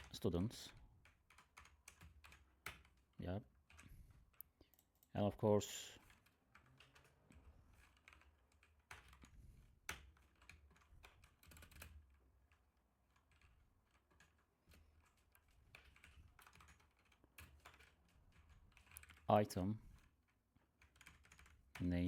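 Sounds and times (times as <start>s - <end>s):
typing on computer keyboard: 0.0s - 5.1s, 6.0s - 19.3s, 20.0s - 22.0s.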